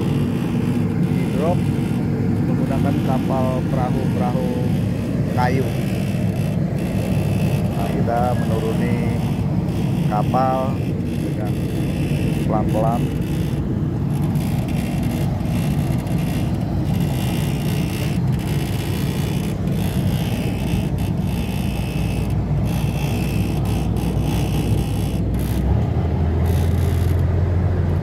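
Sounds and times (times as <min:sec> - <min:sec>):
deep engine hum: 0:00.0 - 0:28.0
engines rumbling: 0:00.0 - 0:28.0.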